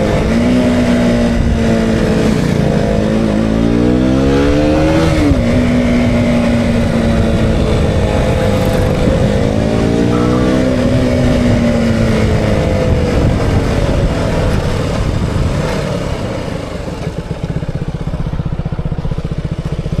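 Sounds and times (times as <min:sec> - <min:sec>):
motorcycle engine revving: 0:00.0 - 0:20.0
rushing wind noise: 0:00.0 - 0:20.0.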